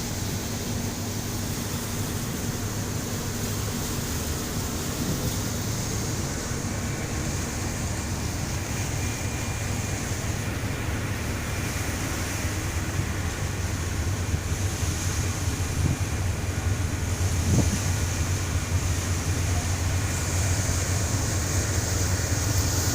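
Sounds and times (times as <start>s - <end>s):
ship engines rumbling: 0.0s - 22.9s
water noise: 0.0s - 22.9s
wind: 0.0s - 22.9s.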